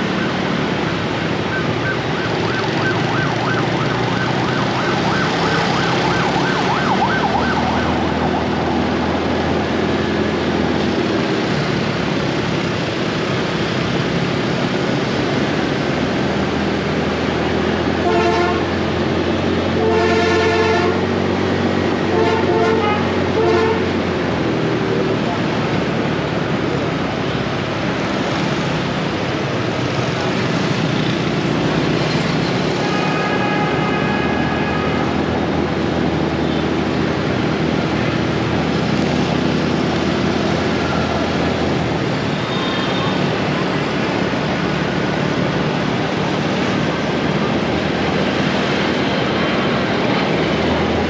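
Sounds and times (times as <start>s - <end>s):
city traffic noise: 0.0s - 51.0s.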